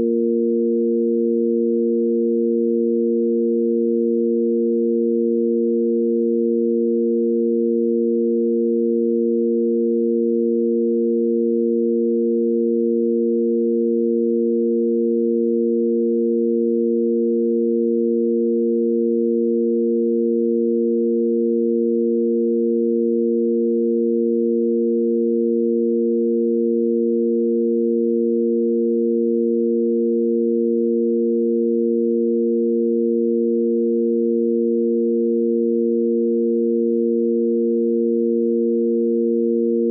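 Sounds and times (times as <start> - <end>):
steady sine tone drone: 0.0 - 39.9.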